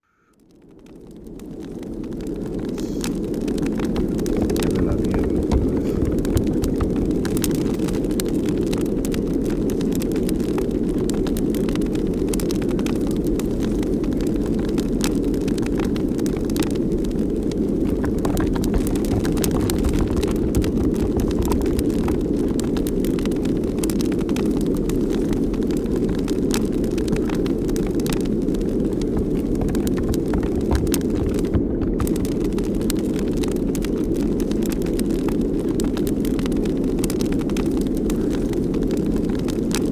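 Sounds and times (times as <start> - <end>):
faint clicks and ticks: 0.1 - 39.9
light crackles: 0.1 - 39.9
wind buffeting microphone: 1.3 - 39.9.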